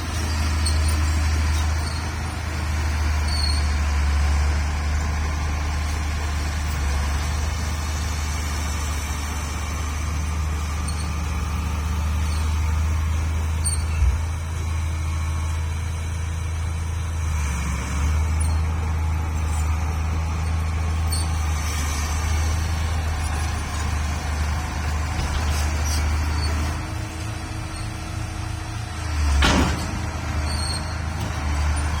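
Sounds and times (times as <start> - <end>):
heavy vehicle engine droning: 0.0 - 32.0.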